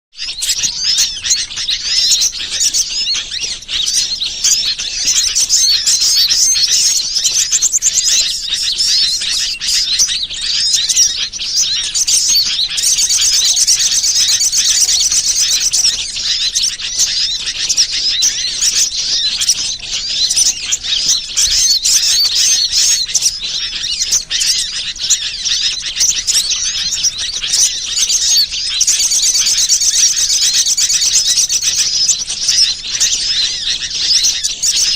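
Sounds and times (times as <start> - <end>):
small birds chirping densely: 0.1 - 34.9.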